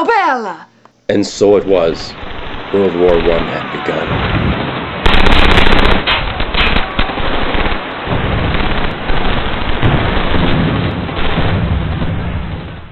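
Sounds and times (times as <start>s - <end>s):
explosions: 1.4s - 12.9s
rumble: 1.6s - 12.9s
rapid gunfire: 2.1s - 12.9s.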